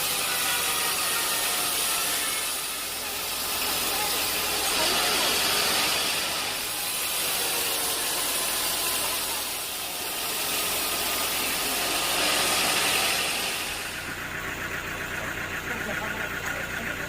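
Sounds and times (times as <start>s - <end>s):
band saw machine hum and hiss: 0.0s - 14.9s.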